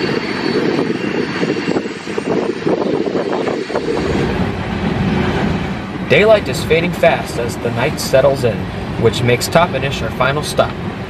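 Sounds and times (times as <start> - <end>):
freight train cars rolling: 0.0 - 11.0.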